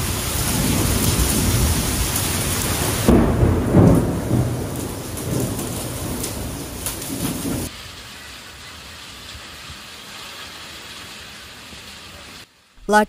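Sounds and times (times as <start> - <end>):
wind-driven rain roaring: 0.0 - 12.7.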